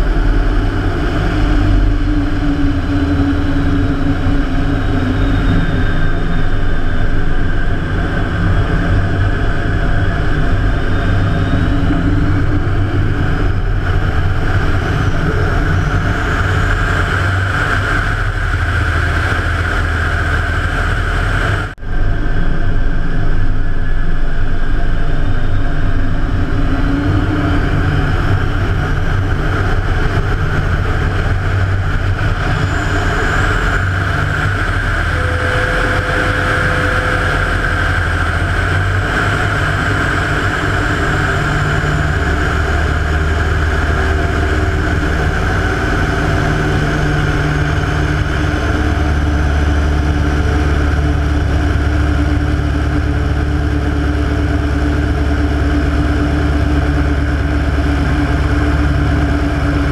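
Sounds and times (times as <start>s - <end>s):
radial aircraft engine running: 0.0s - 59.9s.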